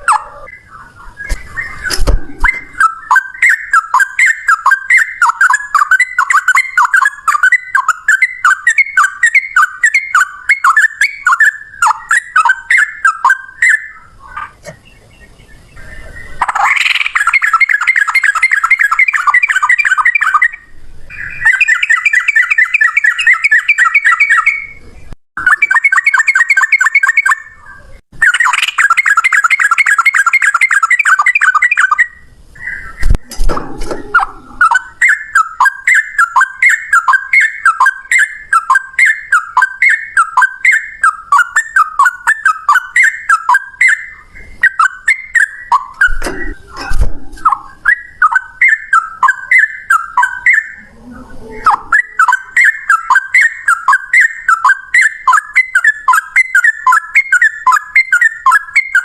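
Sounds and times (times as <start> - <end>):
bird singing rapid chattering notes: 0.0 - 59.0.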